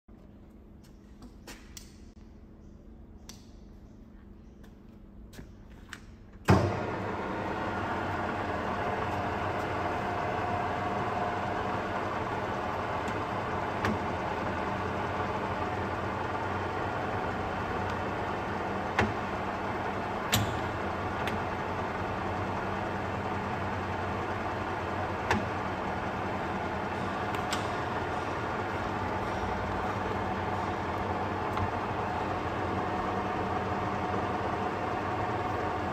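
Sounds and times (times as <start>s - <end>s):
lathe switching on clunk: 6.4s - 35.9s
lathe motor whine: 6.6s - 35.9s.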